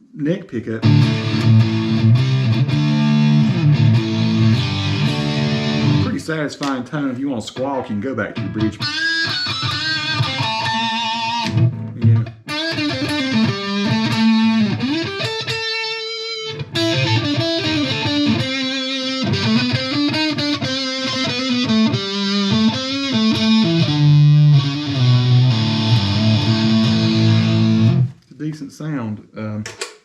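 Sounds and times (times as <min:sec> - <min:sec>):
electric guitar lead lines: 0:00.8 - 0:06.2, 0:08.3 - 0:28.2.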